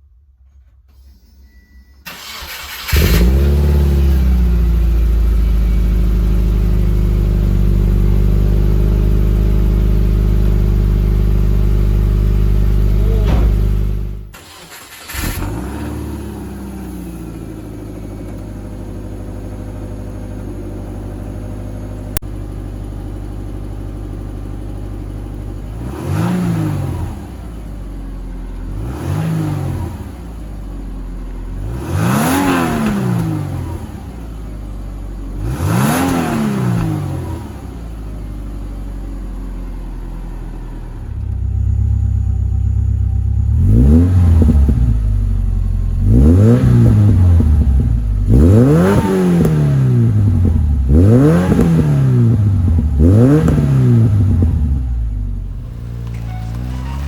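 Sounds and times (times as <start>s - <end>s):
car engine idling and revving: 0.9s - 57.0s.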